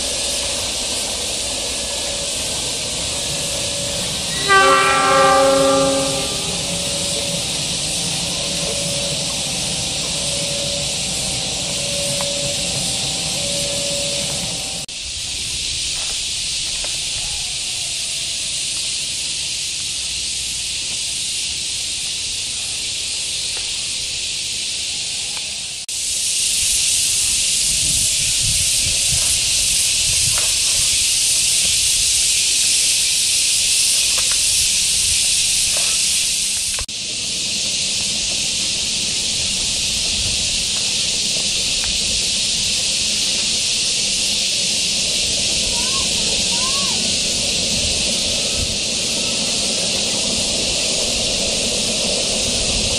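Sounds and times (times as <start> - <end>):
insects hissing chorus: 0.0 - 52.9.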